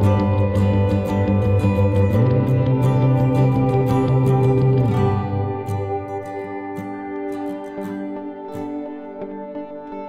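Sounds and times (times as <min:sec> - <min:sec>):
calm instrumental music: 0:00.0 - 0:10.0.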